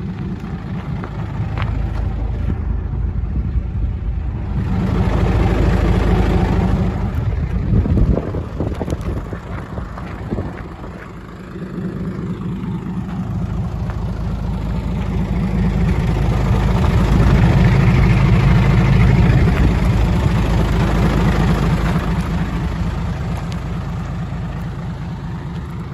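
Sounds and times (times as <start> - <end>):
diesel truck engine running: 0.0 - 25.9.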